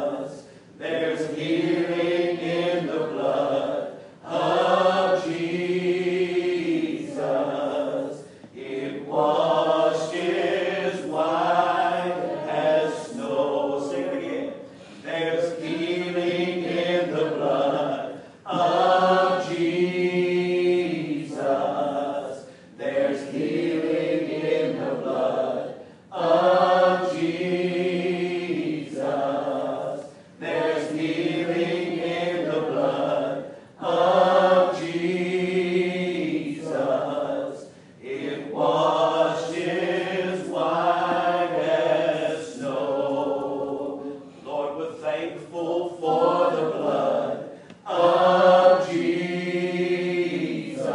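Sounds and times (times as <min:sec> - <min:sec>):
congregation singing gospel chorus: 0:00.0 - 0:50.9.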